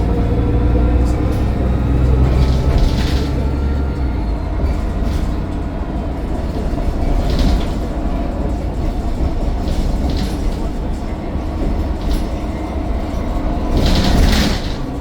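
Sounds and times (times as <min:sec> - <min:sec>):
bus body rattle: 0:00.0 - 0:15.0
diesel bus engine drone: 0:00.0 - 0:15.0
road rumble: 0:00.0 - 0:15.0.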